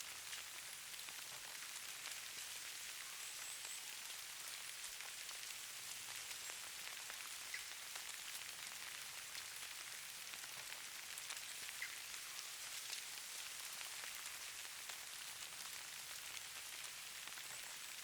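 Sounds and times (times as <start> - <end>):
light rain hissing: 0.0 - 18.0.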